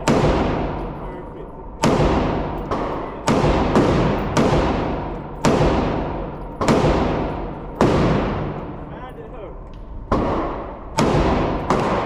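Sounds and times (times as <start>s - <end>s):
gunshots echoing indoors: 0.0s - 9.1s, 10.0s - 12.0s.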